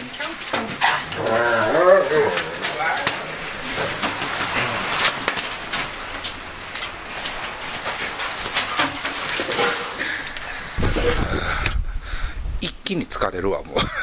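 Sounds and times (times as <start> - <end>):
tent fabric rustling: 0.0 - 11.2.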